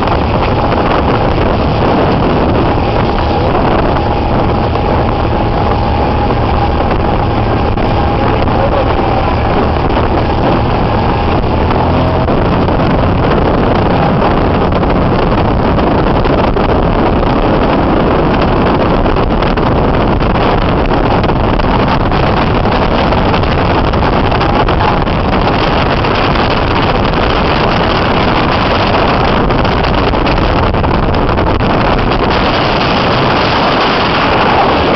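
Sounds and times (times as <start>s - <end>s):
jet ski engine running: 0.0s - 34.9s
wind on microphone: 0.0s - 34.9s.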